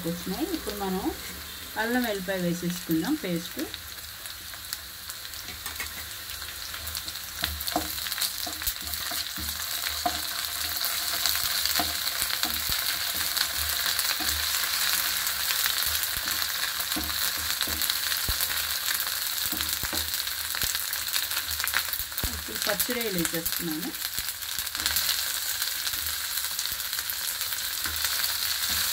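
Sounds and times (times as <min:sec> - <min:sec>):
onions sizzling in hot oil: 0:00.0 - 0:28.9.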